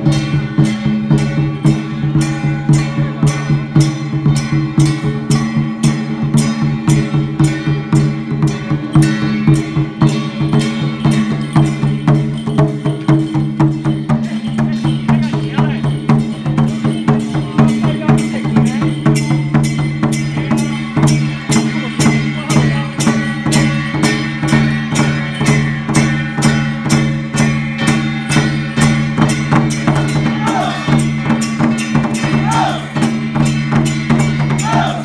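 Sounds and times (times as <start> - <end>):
drum beats: 0.0 - 35.0
wood block beats: 0.0 - 35.0.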